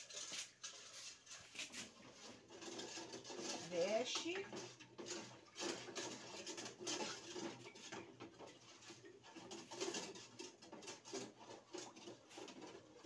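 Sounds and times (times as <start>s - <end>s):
spoon scraping aluminium pan: 0.0s - 13.0s.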